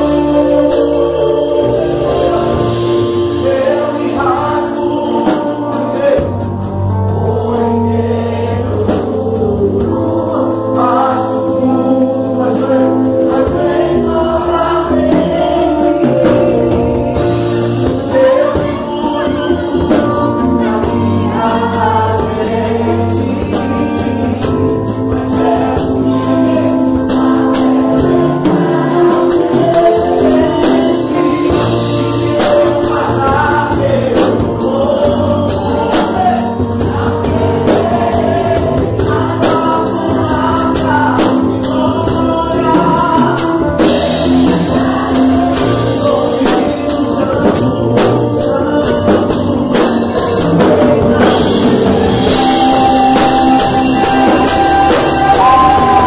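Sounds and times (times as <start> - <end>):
congregation singing along: 0.0 - 56.0
instrumental accompaniment: 0.0 - 56.0
man singing through a microphone: 0.0 - 56.0.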